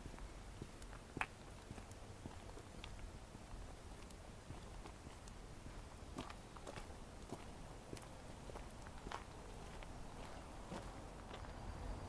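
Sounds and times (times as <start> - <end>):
faint footsteps: 0.0 - 12.0.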